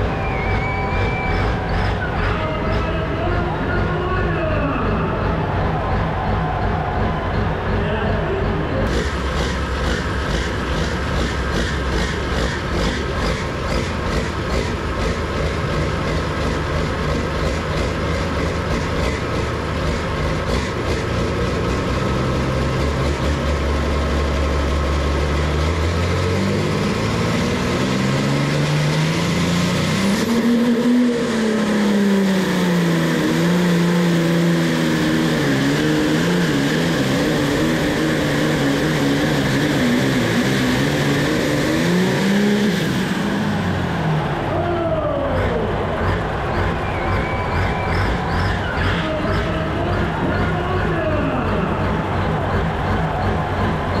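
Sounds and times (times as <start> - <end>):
tractor engine revving: 0.0 - 54.0.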